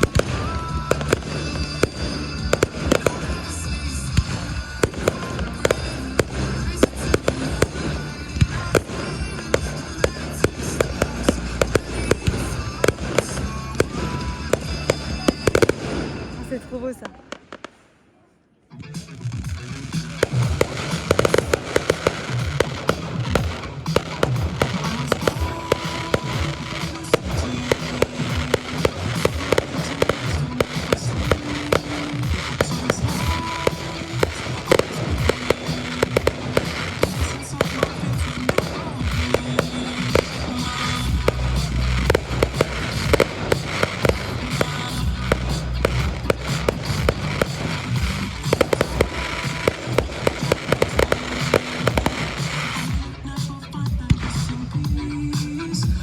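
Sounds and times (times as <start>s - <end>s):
music over sound system: 0.0s - 17.1s, 18.7s - 56.0s
fireworks bangs and crackles: 0.0s - 17.9s, 18.8s - 56.0s.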